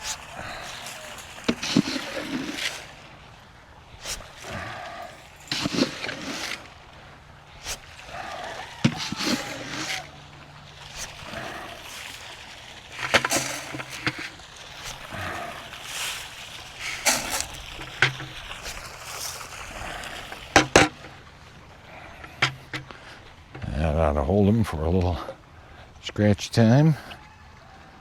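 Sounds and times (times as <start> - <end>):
feed rustling hiss: 0.0 - 23.5.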